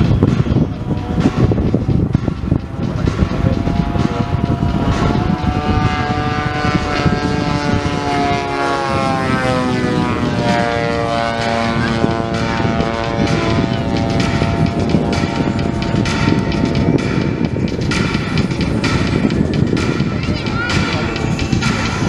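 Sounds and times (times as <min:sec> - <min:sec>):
model plane propeller engines flying past: 0:00.0 - 0:22.0.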